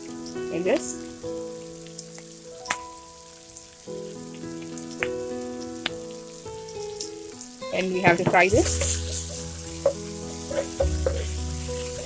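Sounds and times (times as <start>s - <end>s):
onions sizzling in hot oil: 0.0s - 12.0s
soft background music: 0.0s - 12.0s.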